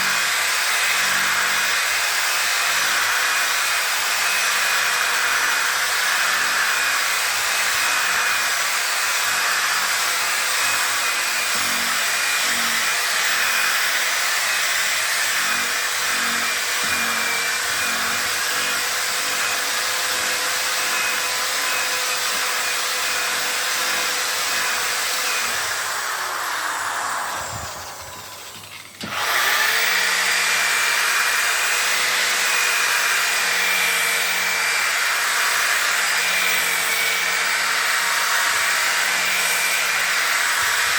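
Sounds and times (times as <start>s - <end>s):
electric polisher spinning: 0.0s - 40.9s.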